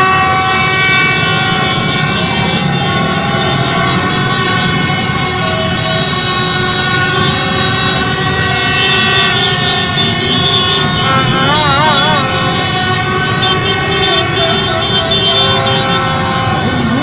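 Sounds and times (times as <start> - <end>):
low rumble of engines: 0.0 - 17.0
many horns sounding: 0.0 - 17.0.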